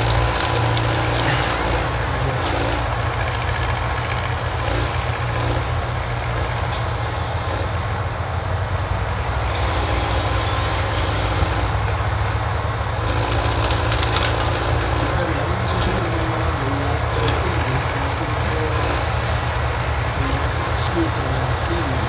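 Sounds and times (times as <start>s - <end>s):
forestry machine engine running: 0.0s - 22.0s.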